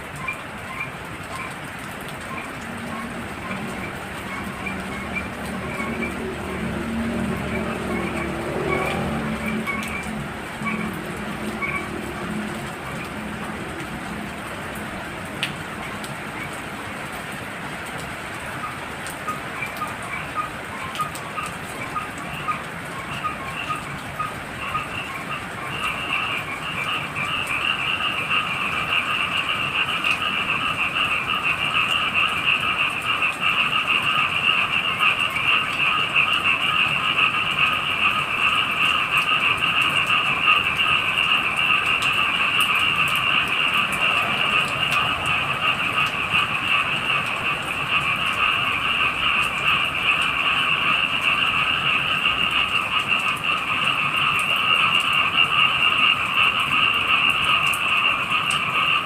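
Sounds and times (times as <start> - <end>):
chorus of frogs trilling: 0.0 - 59.0.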